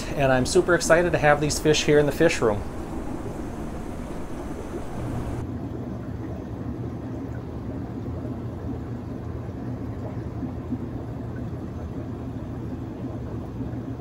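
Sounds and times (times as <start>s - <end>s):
aquarium air pump humming: 0.0s - 14.0s
sponge filter bubbling: 0.0s - 14.0s.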